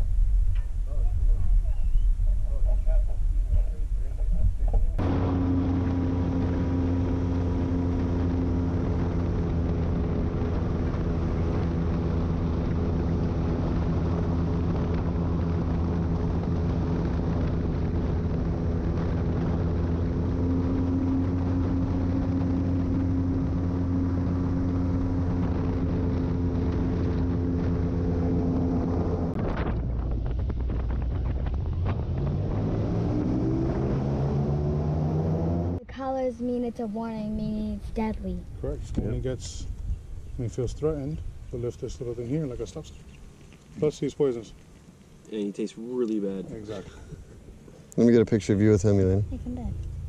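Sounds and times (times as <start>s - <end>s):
airboat engine and propeller drone: 0.0s - 50.0s.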